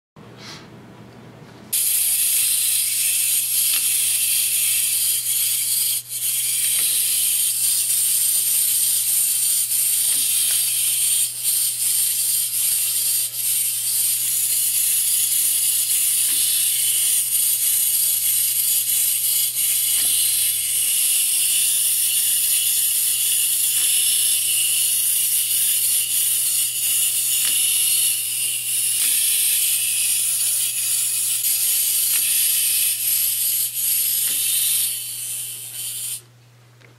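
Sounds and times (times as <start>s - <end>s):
clockwork toy motors whirring: 1.7s - 36.2s.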